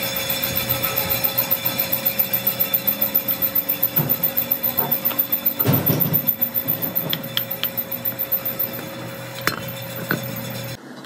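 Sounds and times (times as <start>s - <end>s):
machine throbbing: 0.0s - 10.8s.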